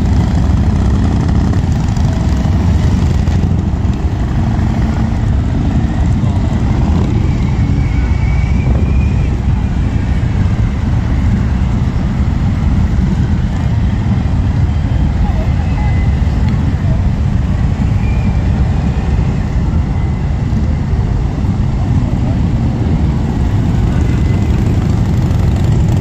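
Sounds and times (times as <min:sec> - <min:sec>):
motorcycles pulling away: 0:00.0 - 0:26.0.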